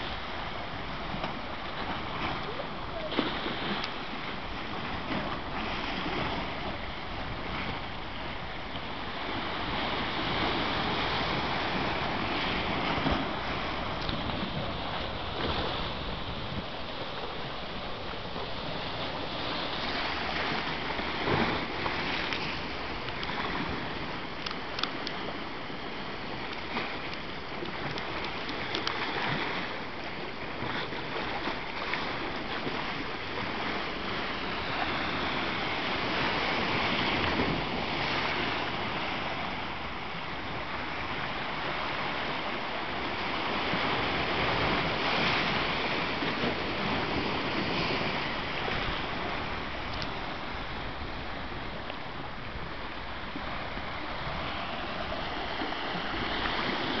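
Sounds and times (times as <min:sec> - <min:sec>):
sea surf washing around rocks: 0:00.0 - 0:57.0.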